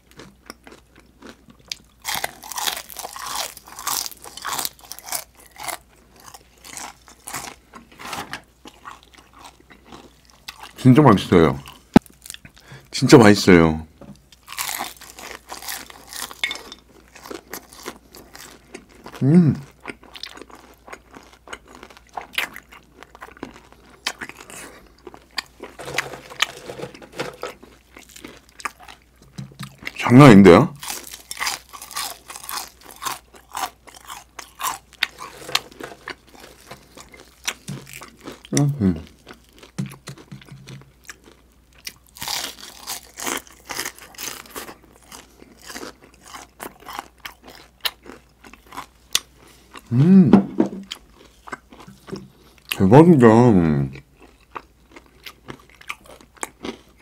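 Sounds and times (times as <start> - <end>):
crunching and chewing crispy food: 0.0 - 12.9, 14.2 - 50.0, 50.8 - 57.0.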